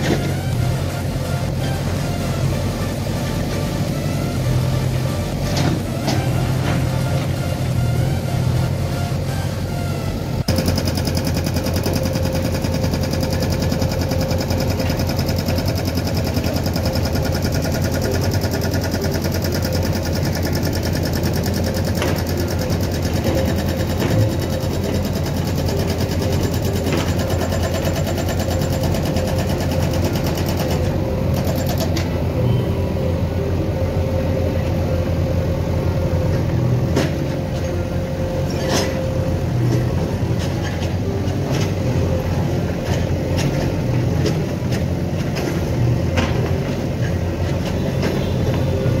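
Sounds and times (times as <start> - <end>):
diesel engine running: 0.0 - 49.0.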